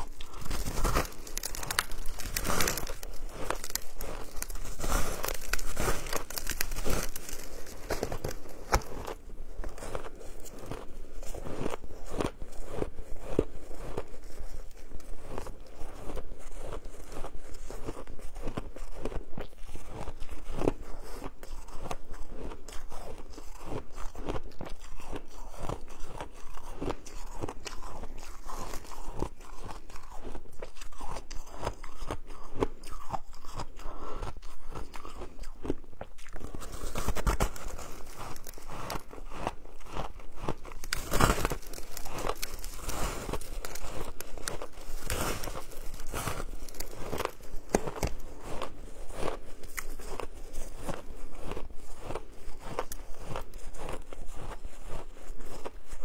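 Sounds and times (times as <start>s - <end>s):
crunching and chewing ice: 0.0s - 56.0s.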